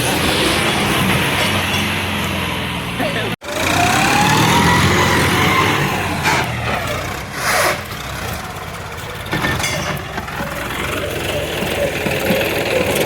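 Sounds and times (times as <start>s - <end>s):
tractor engine rumbling: 0.0s - 13.0s.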